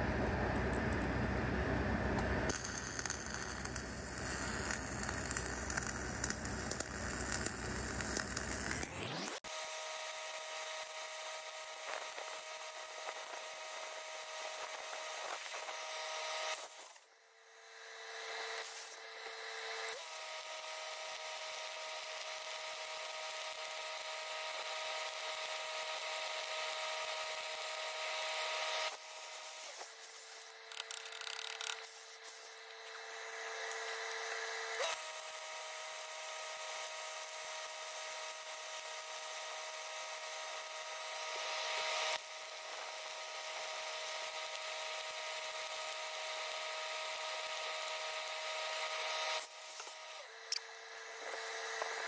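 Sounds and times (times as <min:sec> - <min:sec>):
machine whine: 0:00.0 - 0:52.0
welding arc crackling and hissing: 0:02.2 - 0:17.1, 0:18.1 - 0:52.0.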